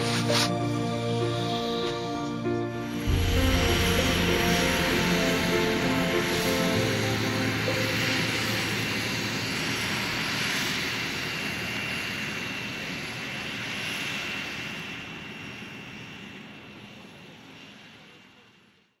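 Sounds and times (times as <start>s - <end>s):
propeller noise: 0.0s - 16.2s
turbine whine: 0.0s - 18.8s.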